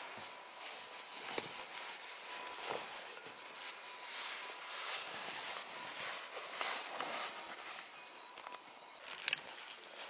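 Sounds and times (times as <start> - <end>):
continuous rustling: 0.0 - 10.0.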